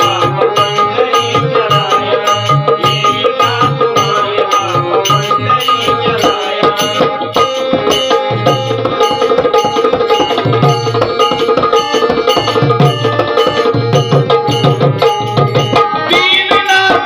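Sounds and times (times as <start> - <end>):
tabla playing fast rhythm: 0.0 - 17.0.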